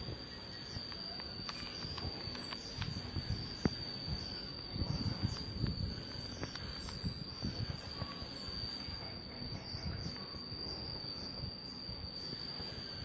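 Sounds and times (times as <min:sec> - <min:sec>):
high-pitched insect trill: 0:00.0 - 0:13.0
low rumble on microphone: 0:00.0 - 0:13.0.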